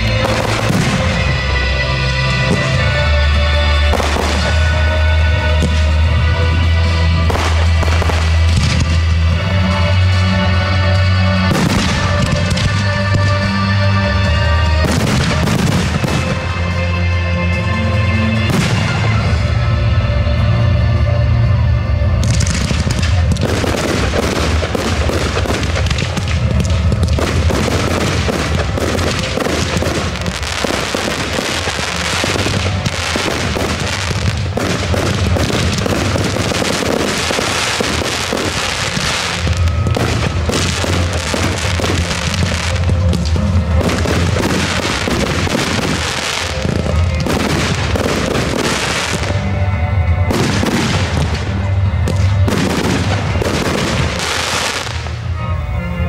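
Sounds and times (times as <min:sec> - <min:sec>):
fireworks bangs and crackling: 0:00.0 - 0:55.4
music with heavy bass: 0:00.0 - 0:56.0.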